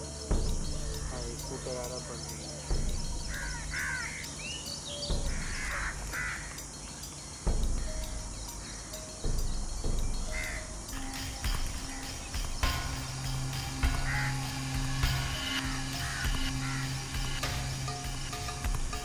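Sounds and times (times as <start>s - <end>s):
harsh bird-like calls: 0.0s - 19.0s
low steady hum: 0.0s - 19.0s.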